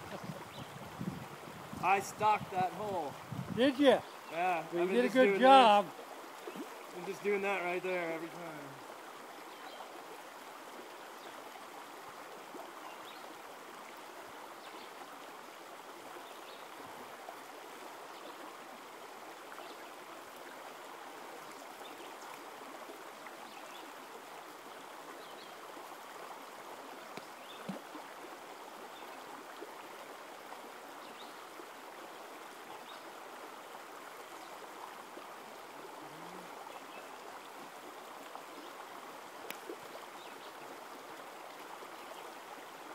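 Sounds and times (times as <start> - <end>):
creek running over rocks: 0.0 - 42.9.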